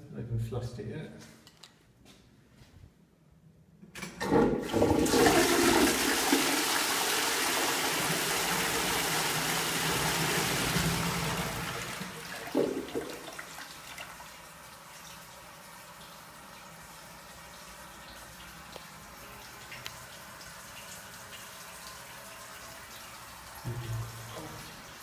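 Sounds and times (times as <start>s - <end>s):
toilet flushing: 4.0s - 25.0s.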